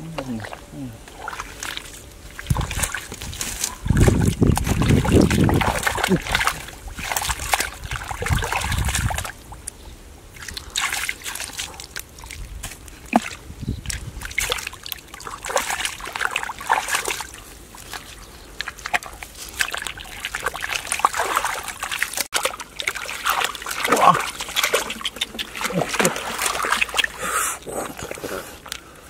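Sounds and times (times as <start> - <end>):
water trickling: 0.0 - 29.0
hands sloshing in mud: 0.2 - 9.4, 10.4 - 28.3.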